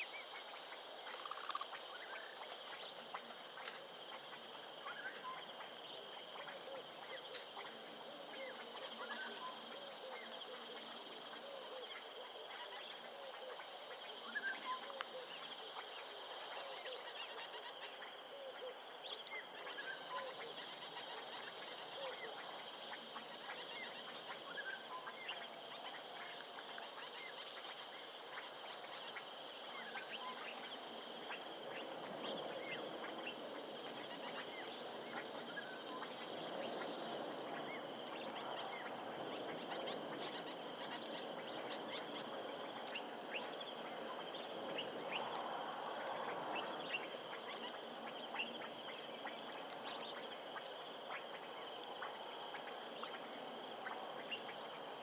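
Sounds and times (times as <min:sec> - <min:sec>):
frogs chorus: 0:00.0 - 0:55.0
insects trilling: 0:00.0 - 0:55.0.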